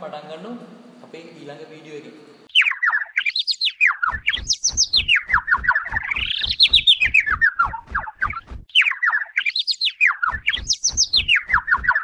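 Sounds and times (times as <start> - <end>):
bird chirping: 1.0 - 12.0.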